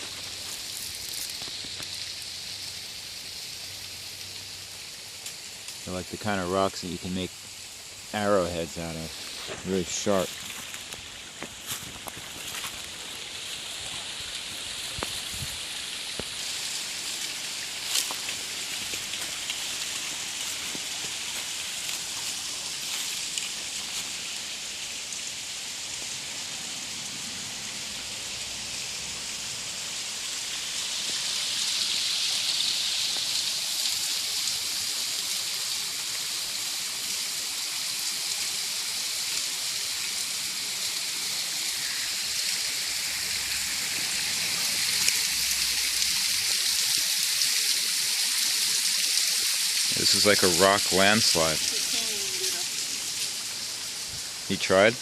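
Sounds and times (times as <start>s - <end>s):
waterfall and stream rushing: 0.0s - 55.0s.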